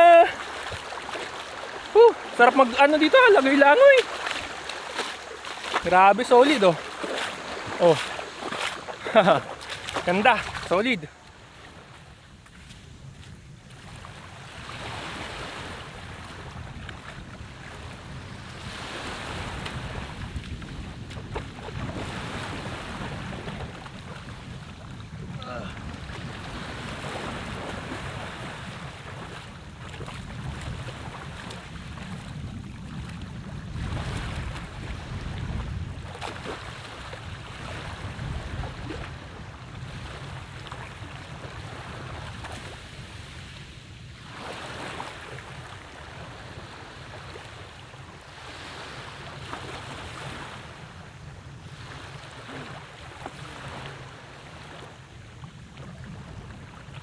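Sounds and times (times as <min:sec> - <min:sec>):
sea water lapping: 0:00.0 - 0:57.0
wind rumbling on microphone: 0:00.0 - 0:57.0.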